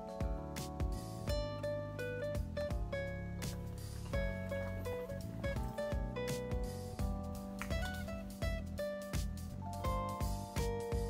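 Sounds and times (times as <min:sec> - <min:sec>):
guitar tune over light beat: 0:00.0 - 0:11.0.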